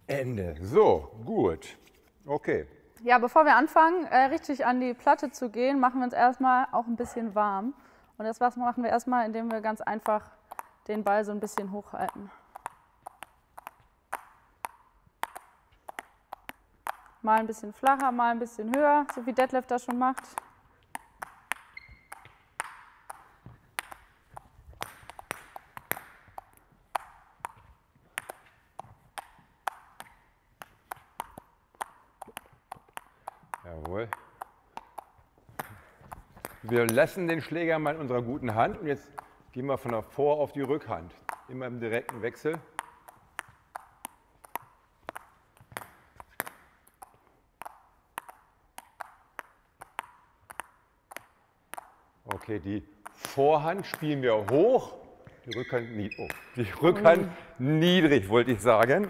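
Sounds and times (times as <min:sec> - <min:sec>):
table tennis balls bouncing on rackets: 0:07.0 - 0:59.0.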